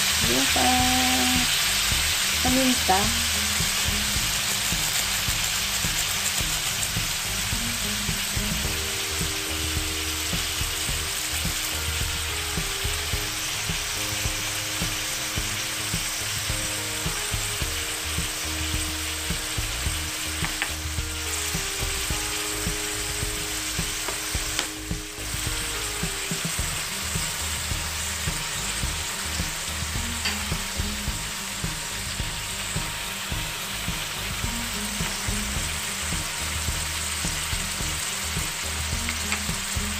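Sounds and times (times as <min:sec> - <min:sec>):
gizzards sizzling in a wok: 0:00.0 - 0:39.9.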